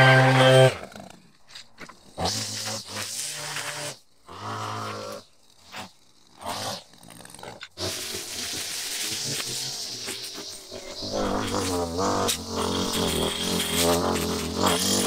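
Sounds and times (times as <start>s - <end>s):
string trimmer revving: 0.0s - 1.2s, 1.8s - 15.0s.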